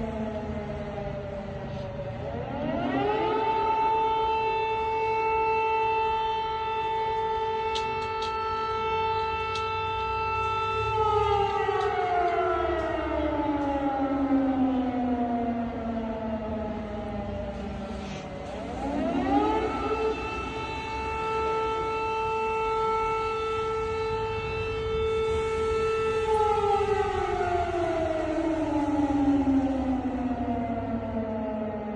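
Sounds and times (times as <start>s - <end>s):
air-raid siren wailing: 0.0s - 31.9s.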